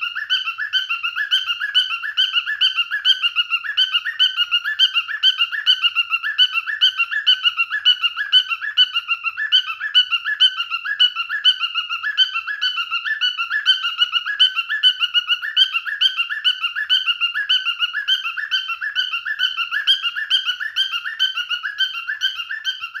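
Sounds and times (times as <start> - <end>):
cockatiel screeching: 0.0 - 23.0.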